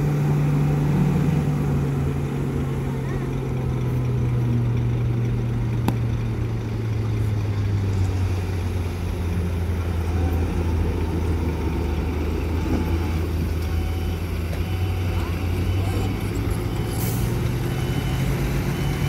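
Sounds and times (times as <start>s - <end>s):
diesel truck engines running: 0.0s - 19.0s.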